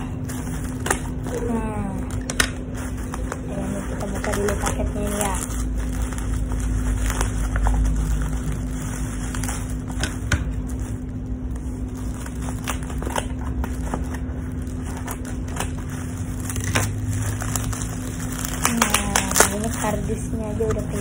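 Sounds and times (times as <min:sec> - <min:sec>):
plastic bag rustling and crinkling: 0:00.0 - 0:21.0
scissors cutting plastic: 0:00.0 - 0:21.0.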